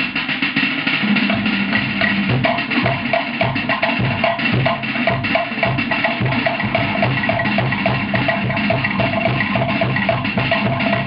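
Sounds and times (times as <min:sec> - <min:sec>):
deep drum beat: 0:00.0 - 0:11.0
wooden slit drums: 0:00.0 - 0:11.0.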